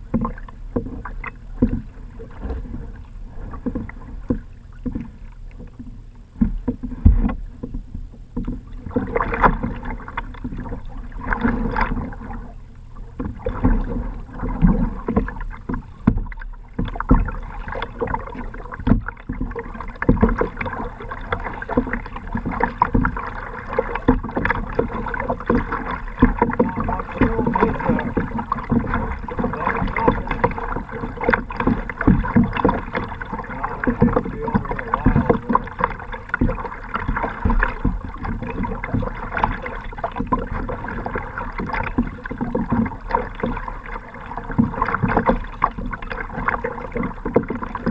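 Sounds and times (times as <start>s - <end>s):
water splashing against kayak hull: 0.0s - 47.9s.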